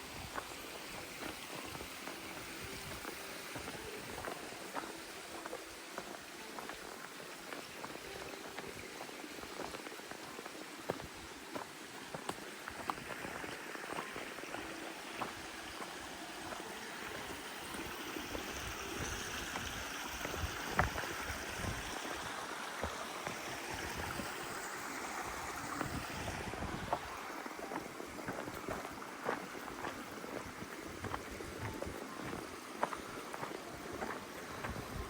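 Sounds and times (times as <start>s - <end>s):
stream running over rocks: 0.0s - 35.0s.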